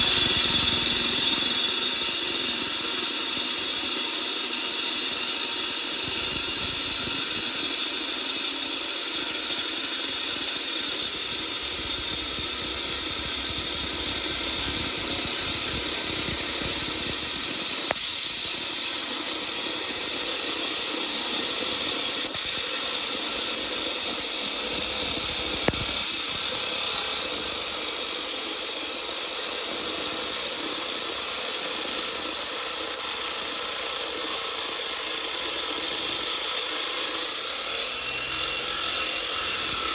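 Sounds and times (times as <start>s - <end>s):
disc cutter grinding concrete: 0.0s - 39.9s.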